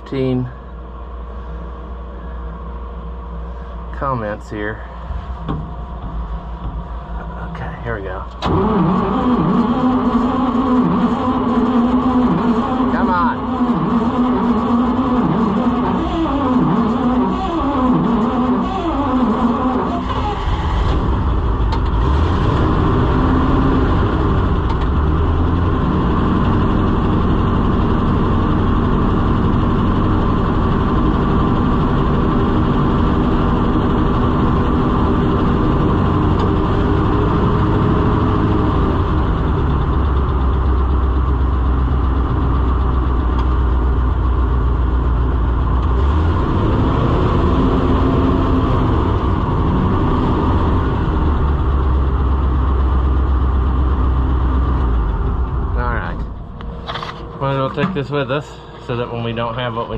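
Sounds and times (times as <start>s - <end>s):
combine engine rumbling: 0.0s - 59.9s.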